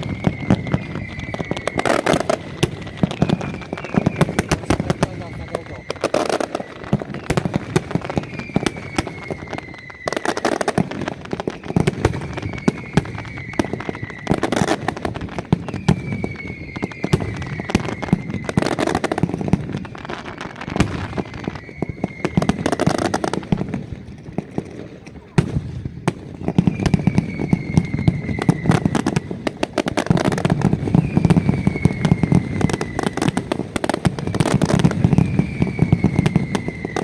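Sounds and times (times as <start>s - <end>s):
firecrackers crackling and banging: 0.0s - 37.0s
whistling fireworks: 0.0s - 37.0s.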